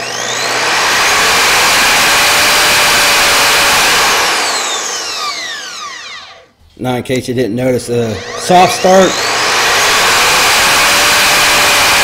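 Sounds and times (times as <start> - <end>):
miter saw motor running: 0.0 - 6.5, 8.0 - 12.0.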